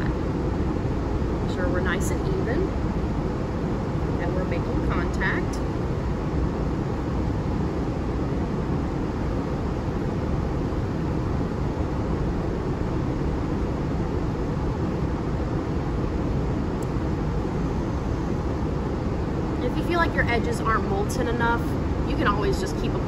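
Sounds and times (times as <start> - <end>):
low rumble of room noise: 0.0 - 23.0.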